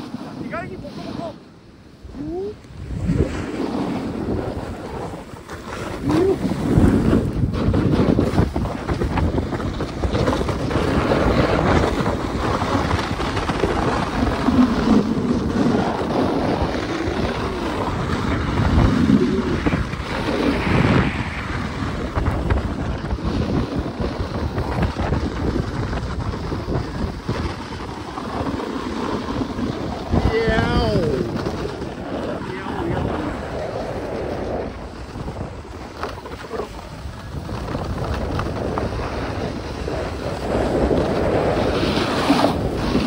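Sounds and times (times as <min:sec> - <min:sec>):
wind rushing over microphone: 0:00.0 - 0:43.0.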